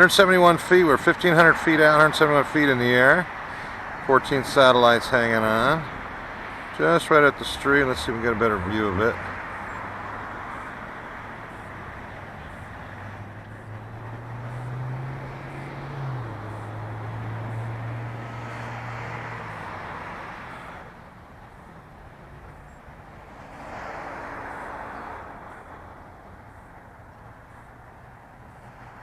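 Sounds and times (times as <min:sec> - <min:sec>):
road traffic passing: 0:00.0 - 0:29.0
low engine hum: 0:02.6 - 0:29.0.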